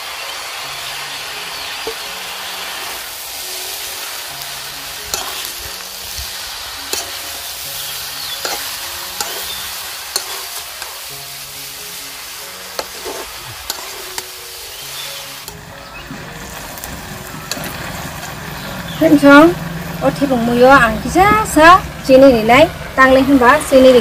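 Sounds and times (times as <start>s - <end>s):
food sizzling in a pan: 0.0s - 22.2s
soft background music: 0.0s - 24.0s.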